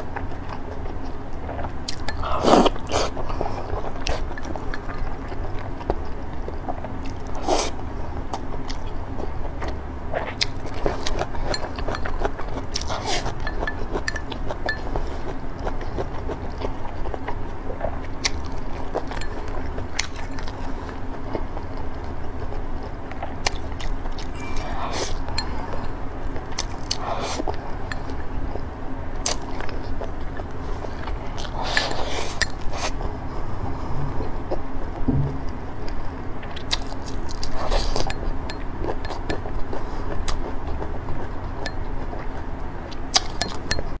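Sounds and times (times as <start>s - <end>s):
soft chewing: 0.0s - 44.0s
steady low hum: 0.0s - 44.0s.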